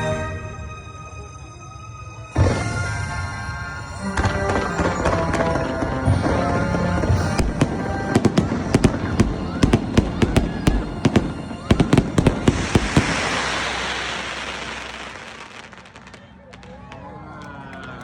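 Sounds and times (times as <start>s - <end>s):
fireworks crackling hiss: 2.4s - 16.9s
fireworks bangs: 2.4s - 17.0s.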